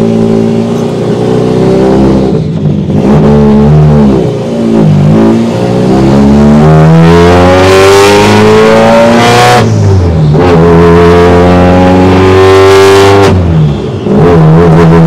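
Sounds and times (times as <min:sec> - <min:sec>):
turbocharged car engine accelerating: 0:00.0 - 0:15.0.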